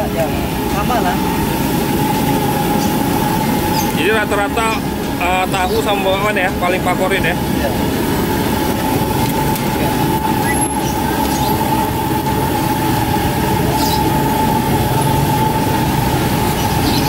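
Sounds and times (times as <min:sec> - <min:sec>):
burner roaring with whistling tone: 0:00.0 - 0:17.0.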